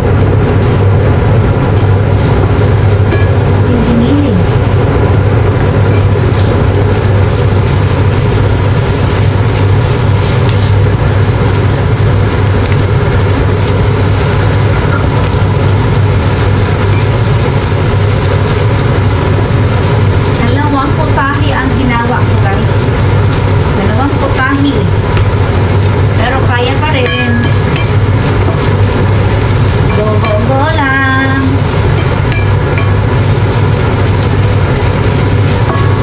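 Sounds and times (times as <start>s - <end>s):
low hum: 0.0s - 36.0s
meat frying in a pan: 4.6s - 36.0s.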